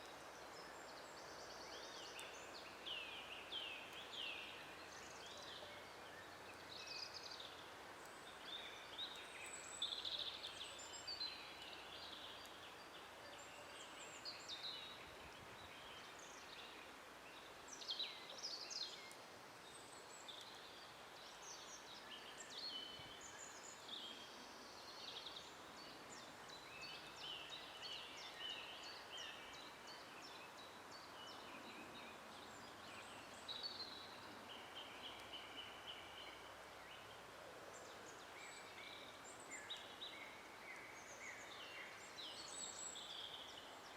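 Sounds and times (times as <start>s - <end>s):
soft background hiss: 0.0s - 43.9s
songbirds singing and chirping: 0.0s - 43.9s.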